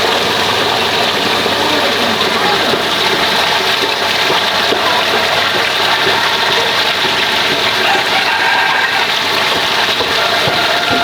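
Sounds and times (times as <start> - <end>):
water pump running: 0.0 - 11.0
water rushing: 0.0 - 11.0.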